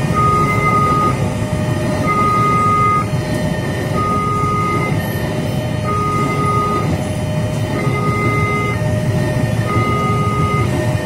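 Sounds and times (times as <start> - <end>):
level crossing two-tone alarm: 0.0 - 3.2, 3.8 - 11.0
train carriages rumbling on rails: 0.0 - 11.0.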